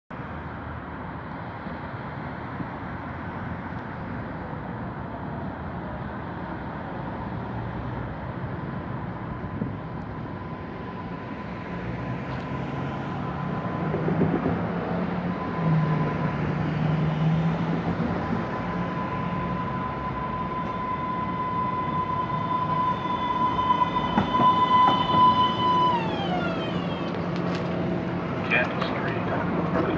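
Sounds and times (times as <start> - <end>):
street traffic noise: 0.1 - 29.9
light-rail train motor hum and whine: 0.2 - 29.9.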